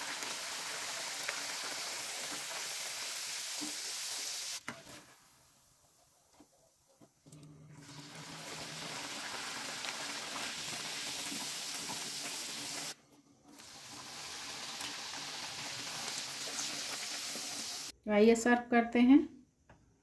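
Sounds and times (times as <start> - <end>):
dough sizzling in hot oil: 0.0 - 6.1, 7.8 - 17.9.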